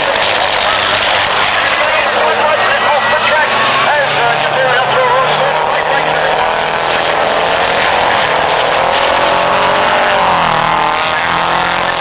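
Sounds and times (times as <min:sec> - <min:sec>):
diesel truck engines racing: 0:00.0 - 0:12.0.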